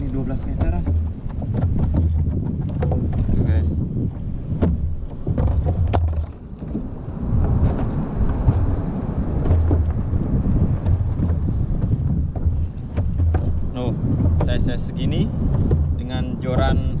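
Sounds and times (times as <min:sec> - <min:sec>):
water against boat hull: 0:00.0 - 0:17.0
wind buffeting microphone: 0:00.0 - 0:17.0.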